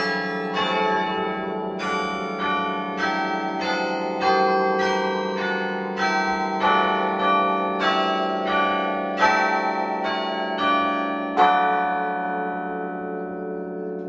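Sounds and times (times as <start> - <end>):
church bells ringing a tune: 0.0 - 14.0.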